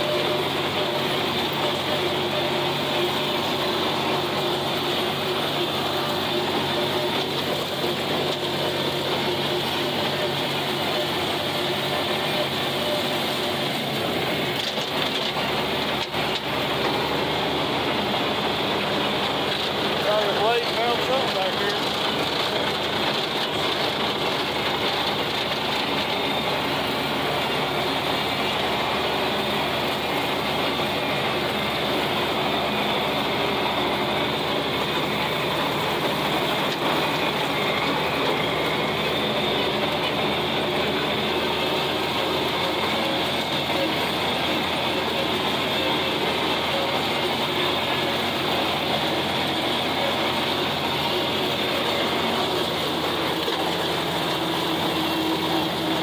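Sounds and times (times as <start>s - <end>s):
rotary cutter mowing grass: 0.0s - 56.0s
tractor engine running under load: 0.0s - 56.0s.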